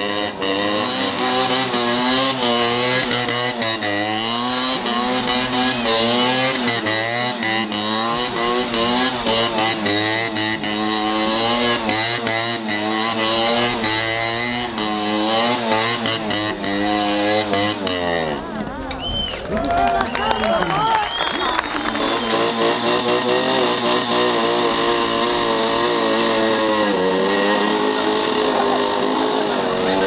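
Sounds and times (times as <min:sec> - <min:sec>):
motorcycle engine revving: 0:00.0 - 0:18.8, 0:20.8 - 0:30.0.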